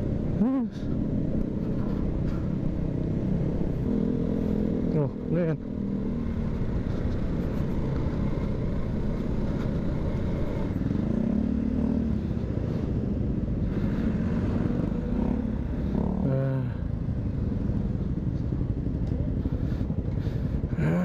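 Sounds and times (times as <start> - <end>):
motorcycle engine hum: 0.0 - 21.0.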